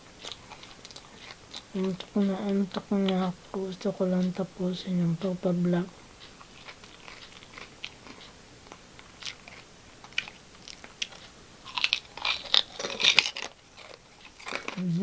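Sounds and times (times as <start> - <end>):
chewing crunchy snack: 0.0 - 3.5, 6.0 - 15.0.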